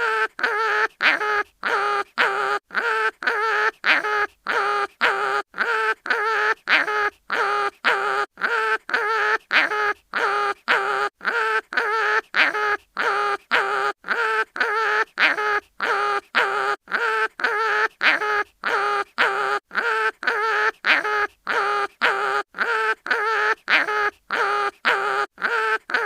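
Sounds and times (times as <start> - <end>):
cartoon animal crying in pain: 0.0 - 26.0.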